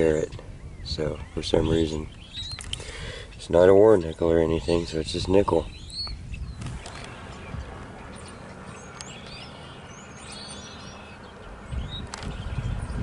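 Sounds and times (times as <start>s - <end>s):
birds chirping: 0.0s - 13.0s
wind buffeting microphone: 0.0s - 13.0s.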